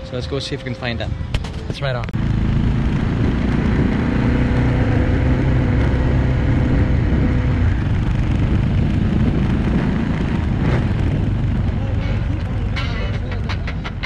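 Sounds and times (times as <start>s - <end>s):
wind and road noise: 0.0s - 14.0s
motorcycle engine running: 1.1s - 14.0s.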